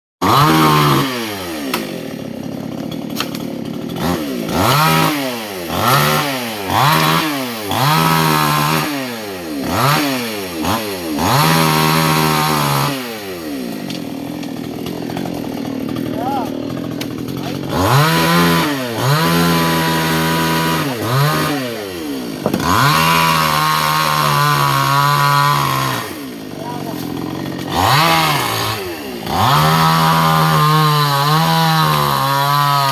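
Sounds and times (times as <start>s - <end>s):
chainsaw engine revving: 0.2s - 32.9s.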